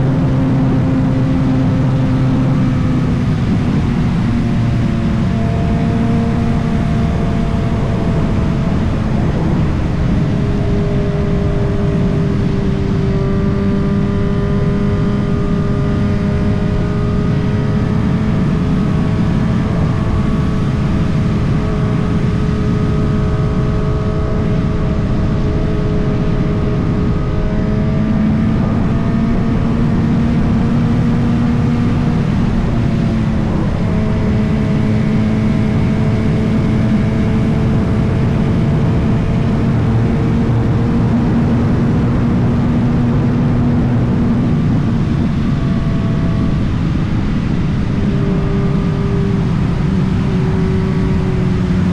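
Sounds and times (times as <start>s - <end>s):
motorcycle engine running: 0.0s - 51.9s
wind and road noise rumble: 0.0s - 51.9s.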